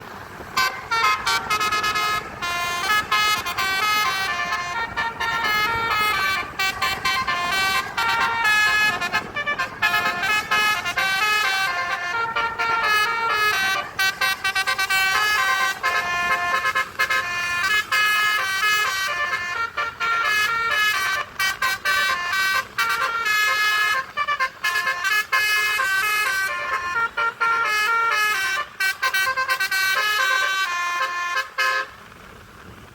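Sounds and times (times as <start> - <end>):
multi-tone bus horn melody: 0.0 - 32.1.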